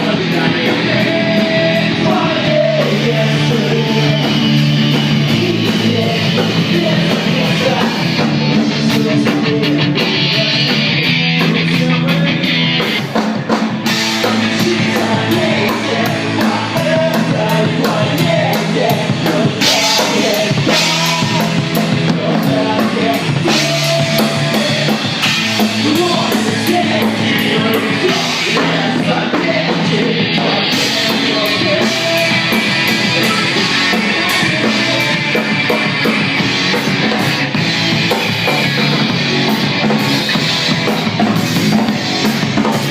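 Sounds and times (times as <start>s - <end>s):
person singing: 0.0s - 39.1s
drum kit with cymbals: 0.0s - 42.9s
rock band playing live: 0.0s - 42.9s.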